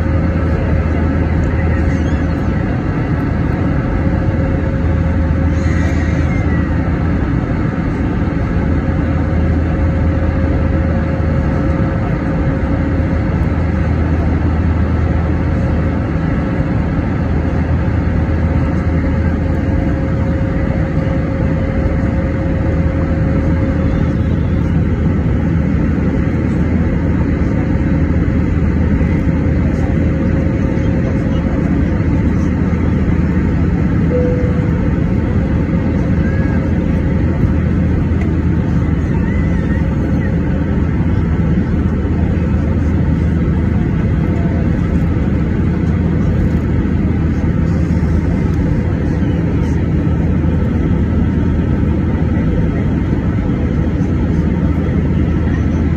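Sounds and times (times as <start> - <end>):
aircraft engines humming: 0.0 - 55.9.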